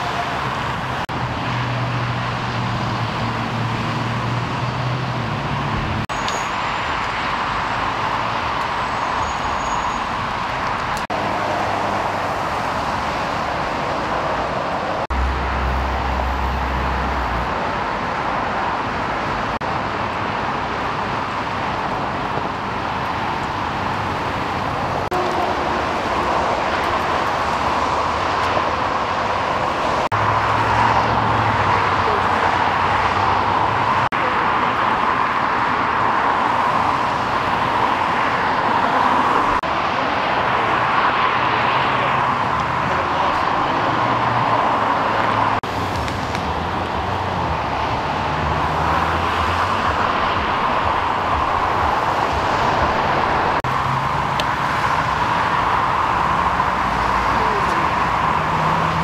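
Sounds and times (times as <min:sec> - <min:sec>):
vehicles passing close by: 0:00.0 - 0:59.0.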